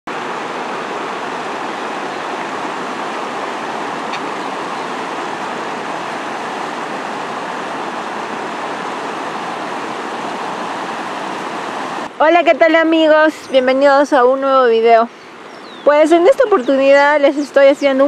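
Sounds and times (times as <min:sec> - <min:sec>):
fast-flowing river rushing: 0:00.1 - 0:18.0.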